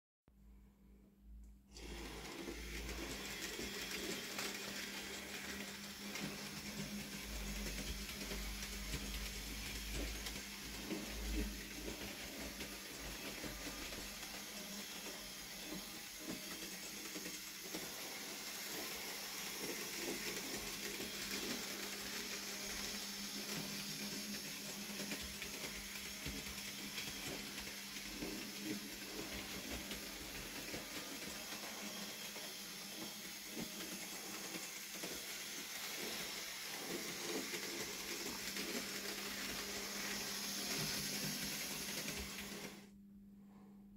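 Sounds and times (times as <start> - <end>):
model train motor whirr: 1.8 - 42.8.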